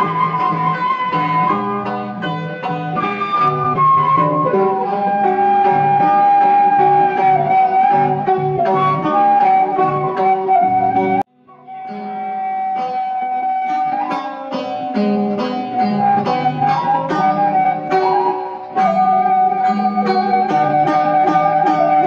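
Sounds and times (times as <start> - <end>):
bamboo flute long notes: 0.0 - 22.0
plucked zither: 0.0 - 22.0.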